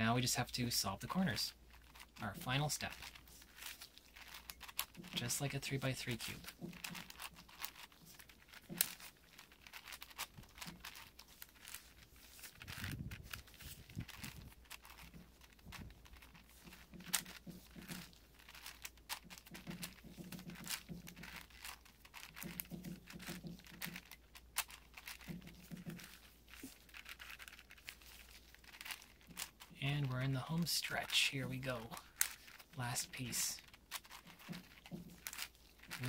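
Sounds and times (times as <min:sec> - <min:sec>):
puzzle cube plastic clicks: 0:00.2 - 0:36.0.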